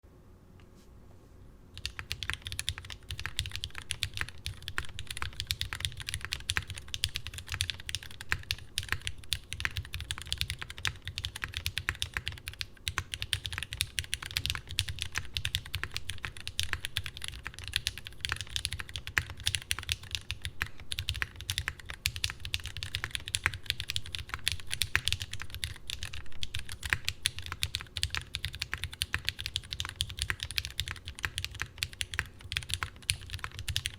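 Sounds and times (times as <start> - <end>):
fast typing on mechanical keyboard: 1.8 - 33.9.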